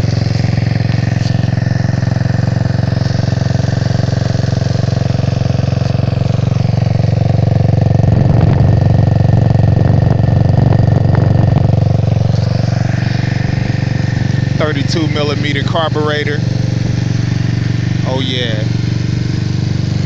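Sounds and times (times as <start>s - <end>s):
scooter engine idling: 0.0s - 20.0s.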